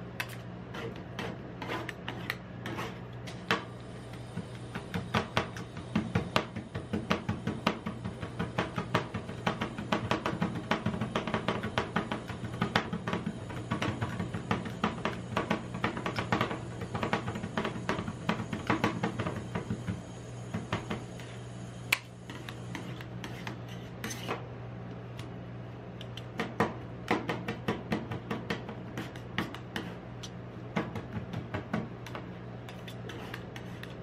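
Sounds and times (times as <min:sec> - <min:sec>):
steady low hum: 0:00.0 - 0:34.0
spatula taps and scrapes: 0:00.2 - 0:24.5, 0:26.0 - 0:34.0.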